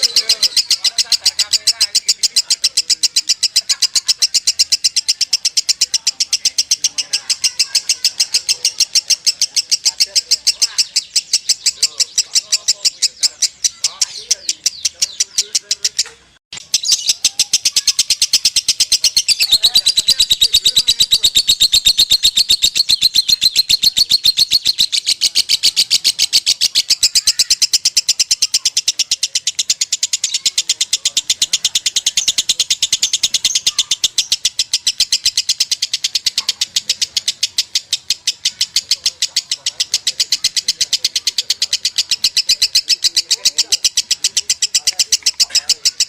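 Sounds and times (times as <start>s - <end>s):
lovebird chirping: 0.0s - 46.0s.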